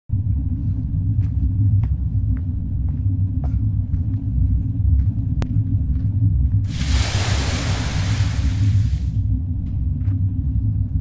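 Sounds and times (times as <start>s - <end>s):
deep low rumble: 0.1s - 11.0s.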